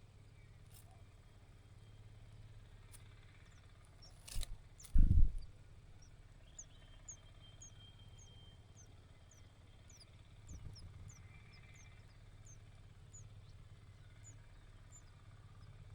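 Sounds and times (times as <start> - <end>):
bird chirping: 1.7 - 15.9
low hum: 1.8 - 15.9.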